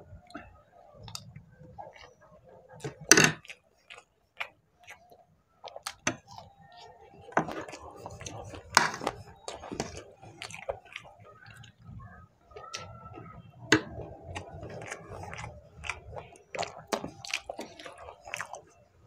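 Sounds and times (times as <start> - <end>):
wet chewing and lip-smacking: 0.0 - 19.0.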